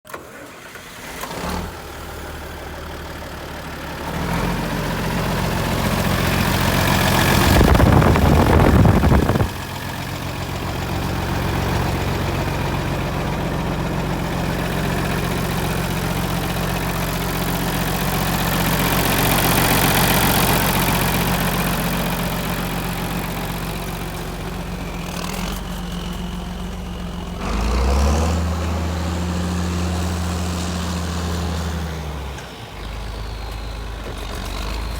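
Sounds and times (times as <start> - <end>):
tractor diesel engine idling: 0.1 - 34.9.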